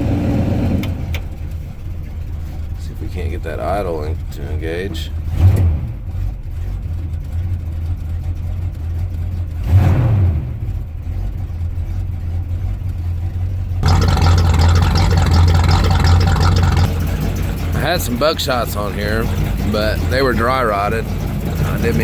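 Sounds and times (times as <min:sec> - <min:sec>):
engine rumbling and revving: 0:00.0 - 0:22.0.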